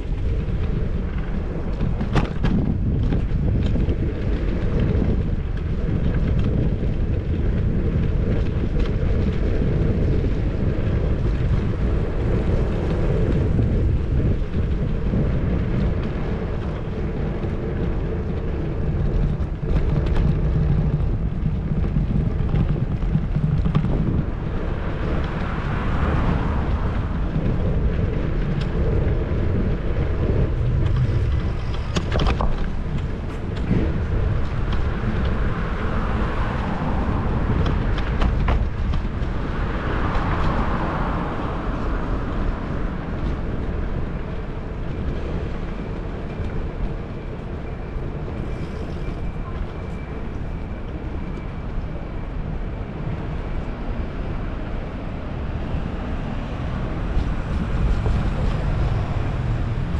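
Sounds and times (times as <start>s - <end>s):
bicycle clicks and rattles: 0.0s - 49.7s
low road rumble: 0.0s - 59.9s
wind buffeting microphone: 0.0s - 59.9s.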